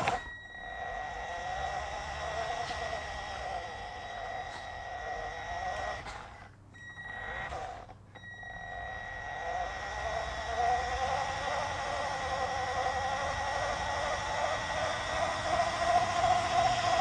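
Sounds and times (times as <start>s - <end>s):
high-pitched controller whine: 0.0s - 17.0s
toy car motor and gears: 0.0s - 17.0s.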